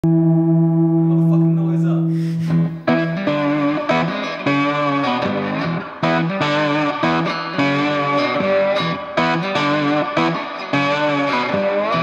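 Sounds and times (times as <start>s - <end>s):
guitar-led music: 0.0s - 12.0s.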